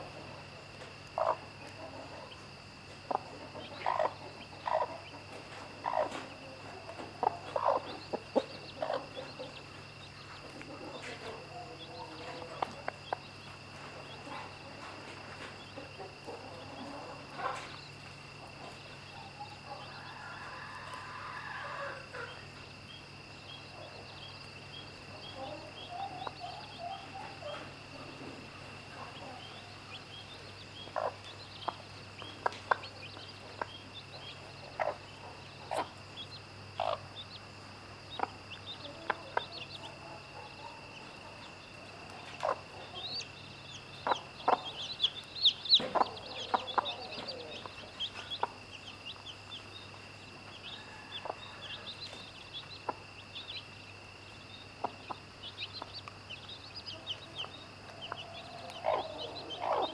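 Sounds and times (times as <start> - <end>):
insects droning: 0.0 - 59.9
chicks peeping: 0.1 - 59.9
hen clucking: 1.1 - 20.2, 25.0 - 37.3, 38.0 - 53.4, 54.6 - 59.9.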